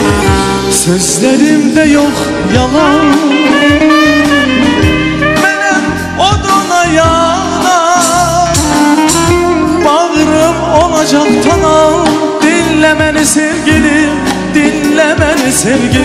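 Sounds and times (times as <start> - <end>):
band with repeating bass line: 0.0 - 16.0
man singing with vibrato: 0.0 - 16.0.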